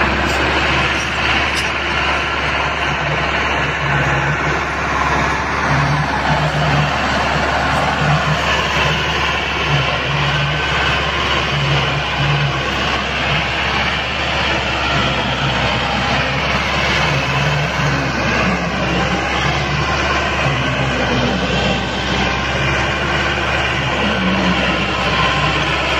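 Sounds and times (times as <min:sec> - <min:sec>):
tractor diesel engine under load: 0:00.0 - 0:25.9.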